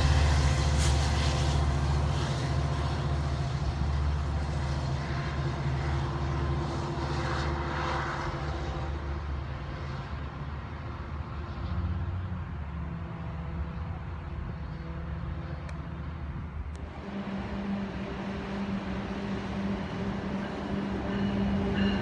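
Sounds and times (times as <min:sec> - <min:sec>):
diesel locomotive engine drone: 0:00.0 - 0:22.0
wheel and rail rumble: 0:00.0 - 0:22.0.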